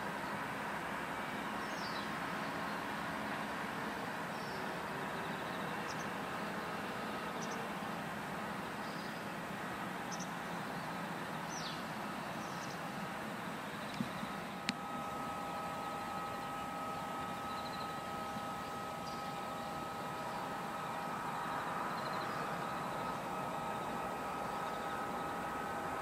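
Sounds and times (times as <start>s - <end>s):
distant aircraft engines: 0.0s - 26.0s.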